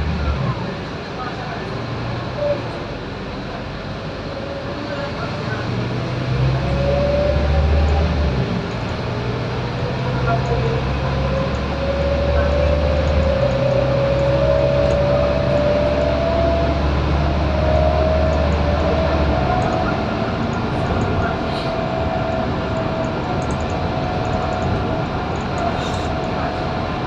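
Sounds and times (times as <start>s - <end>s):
bus engine drone: 0.0s - 27.0s
driveline whine: 2.7s - 27.0s.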